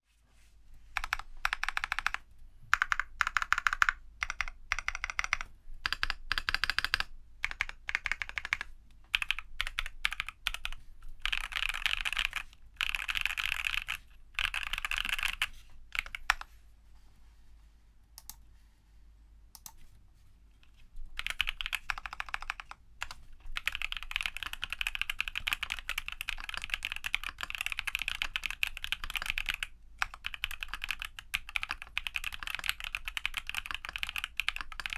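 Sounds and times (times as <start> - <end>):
mechanical keyboard typing: 1.0 - 16.5, 21.2 - 34.9.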